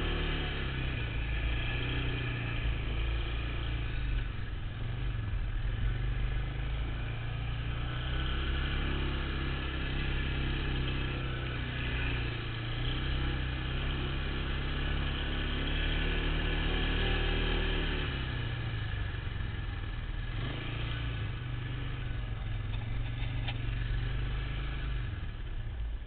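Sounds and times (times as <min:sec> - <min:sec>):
atv engine running: 0:00.0 - 0:26.0
rough ride noise: 0:00.0 - 0:26.0.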